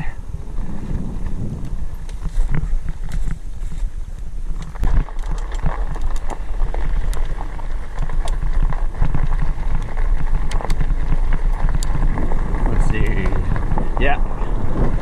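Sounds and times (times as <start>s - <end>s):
tyres crunching on gravel: 0.0s - 15.0s
wind rumble on microphone: 0.0s - 15.0s
clicks and rattles of stones: 1.6s - 15.0s.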